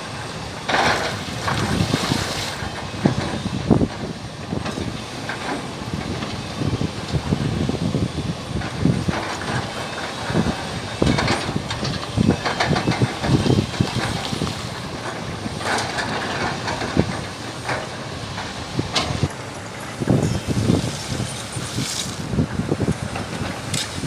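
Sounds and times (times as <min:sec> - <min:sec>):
excavator machine noise: 0:00.0 - 0:24.0.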